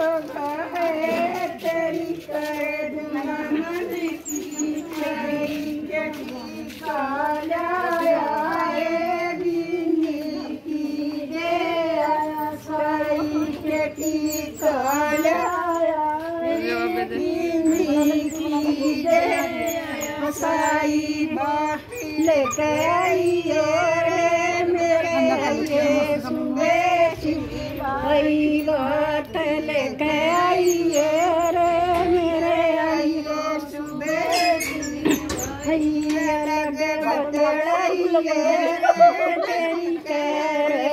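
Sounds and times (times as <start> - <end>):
high-pitched female singing: 0.0 - 40.9.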